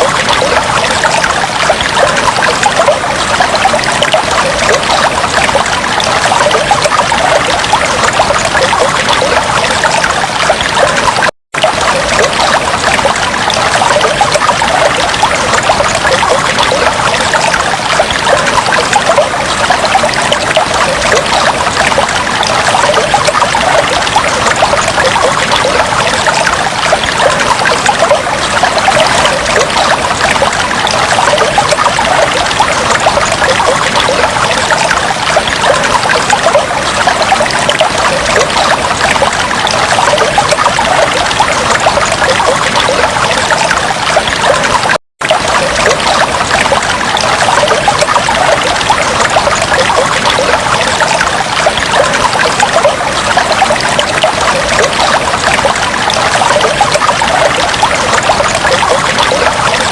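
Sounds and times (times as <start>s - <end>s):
aquarium water trickling and bubbling: 0.0s - 59.9s.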